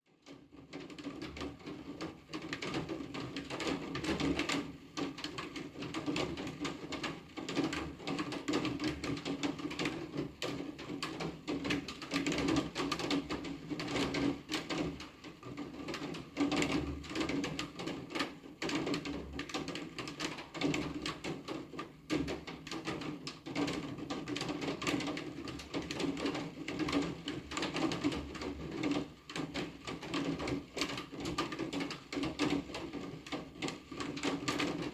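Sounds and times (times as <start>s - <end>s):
rain pattering on hard surface: 0.2s - 34.9s.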